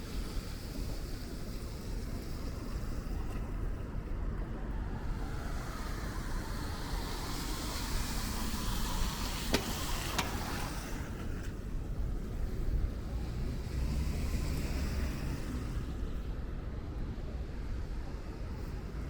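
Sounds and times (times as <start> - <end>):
tyres hissing on wet road: 0.0 - 19.0.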